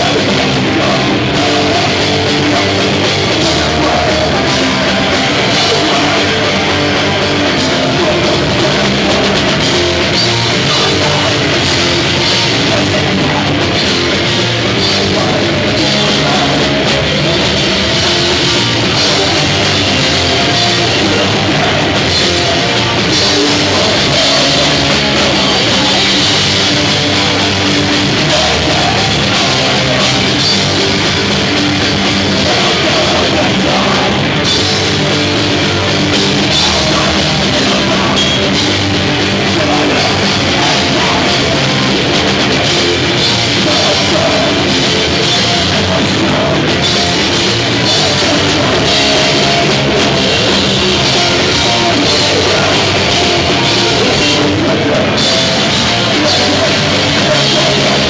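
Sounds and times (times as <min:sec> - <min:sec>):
bass guitar: 0:00.0 - 0:58.0
drum kit pounding: 0:00.0 - 0:58.0
heavy electric guitars: 0:00.0 - 0:58.0.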